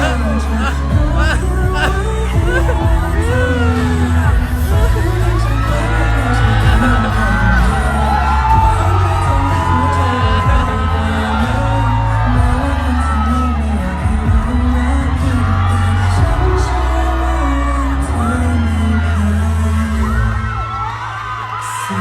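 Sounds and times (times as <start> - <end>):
crowd screaming and whooping: 0.0 - 22.0
pop music with singing: 0.0 - 22.0.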